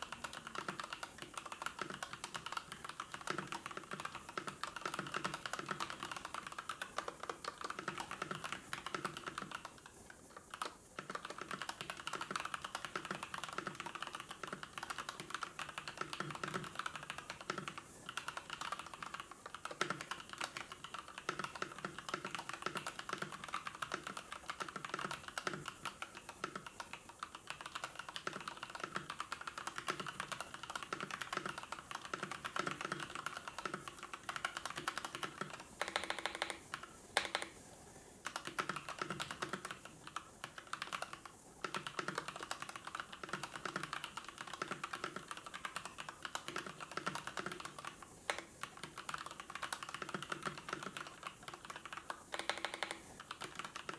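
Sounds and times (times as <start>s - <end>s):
typing on computer keyboard: 0.0s - 53.9s.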